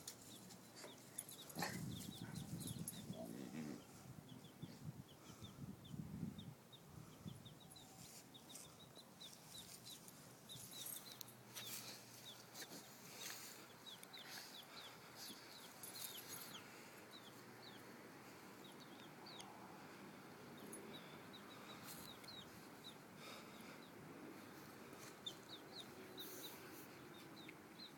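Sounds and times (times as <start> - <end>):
baby chicks peeping: 0.0 - 27.9.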